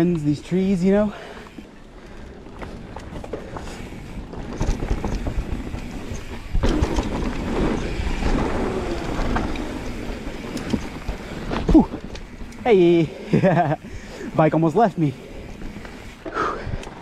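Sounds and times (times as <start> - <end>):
bike rattling: 0.0 - 17.0
bike tyres rolling on dirt: 0.0 - 17.0.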